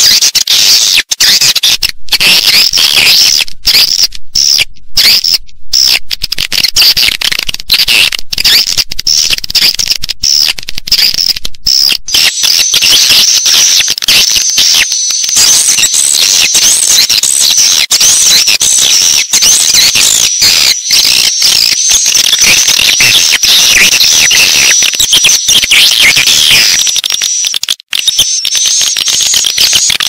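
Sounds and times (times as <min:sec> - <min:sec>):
swiftlets twittering and chirping: 0:00.0 - 0:30.0.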